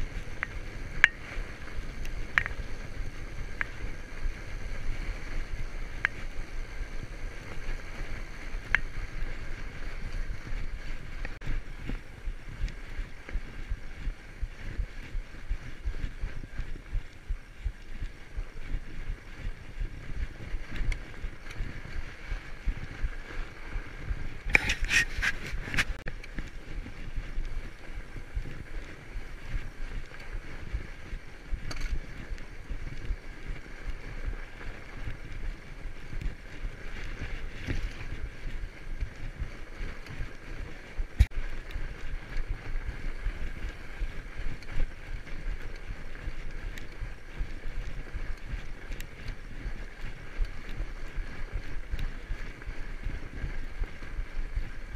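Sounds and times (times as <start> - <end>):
bike tyres rolling on snow: 0.0 - 54.9.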